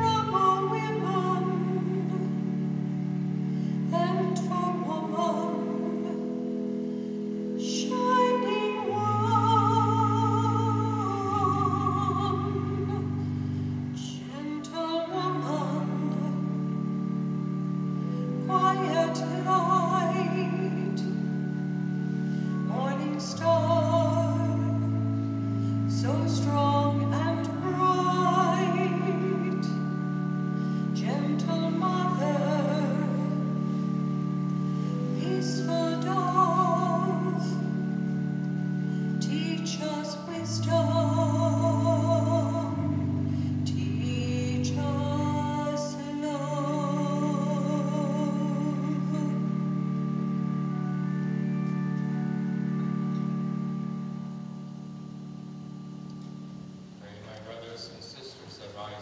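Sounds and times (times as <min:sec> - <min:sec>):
person singing with vibrato: 0:00.0 - 0:54.2
organ chords: 0:00.0 - 0:59.0.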